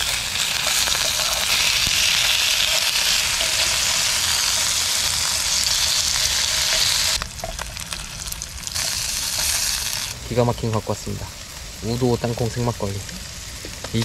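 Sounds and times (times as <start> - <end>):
meat sizzling on a burner: 0.0 - 14.0.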